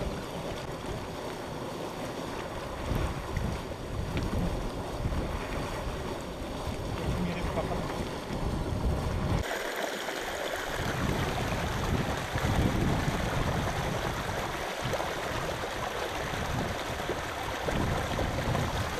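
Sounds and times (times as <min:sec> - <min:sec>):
shallow stream flowing: 0:00.0 - 0:18.9
spring water churning in pool: 0:00.0 - 0:18.9.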